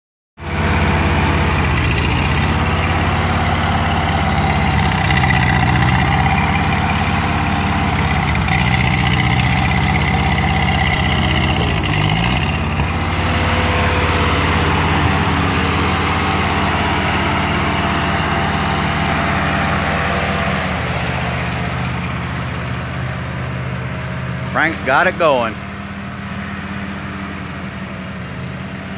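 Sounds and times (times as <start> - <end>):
tractor engine running: 0.4 - 28.9.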